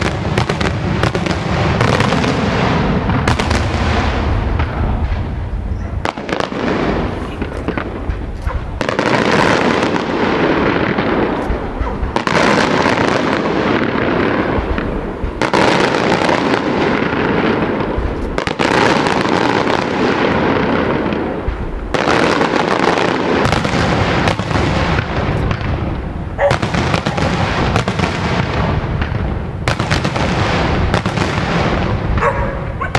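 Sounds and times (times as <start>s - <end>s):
firework crackle: 0.0s - 32.9s.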